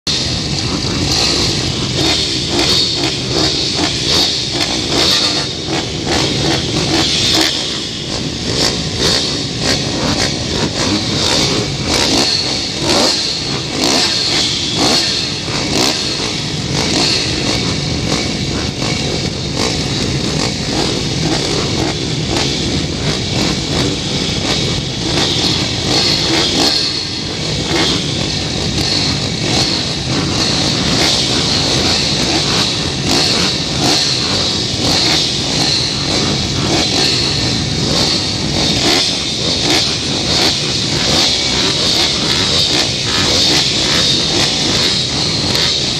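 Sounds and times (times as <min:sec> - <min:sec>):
pit bike engines running hard: 0:00.1 - 0:45.9.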